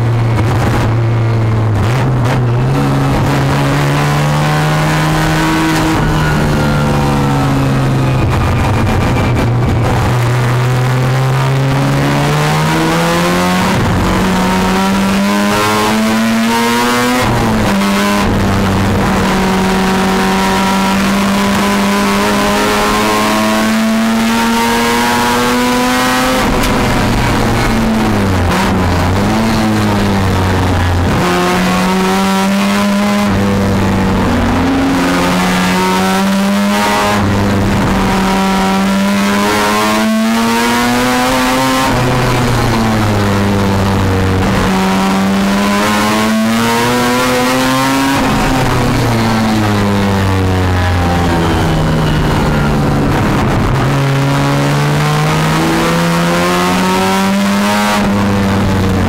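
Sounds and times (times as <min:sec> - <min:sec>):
rotary engine revving in cabin: 0:00.3 - 0:59.0.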